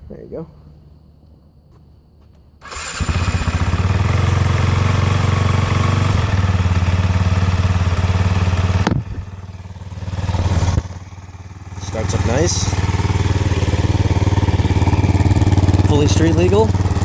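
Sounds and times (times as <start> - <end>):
motorcycle engine starting and idling: 2.6 - 17.0.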